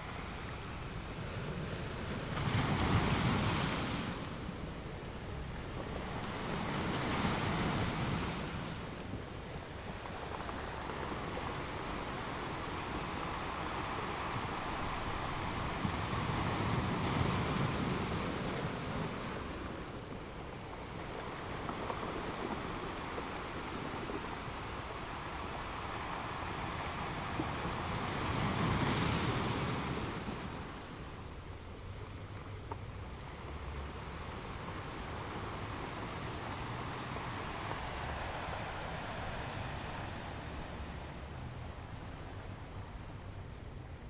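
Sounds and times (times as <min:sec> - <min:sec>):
sea waves washing onto beach: 0:00.0 - 0:44.0.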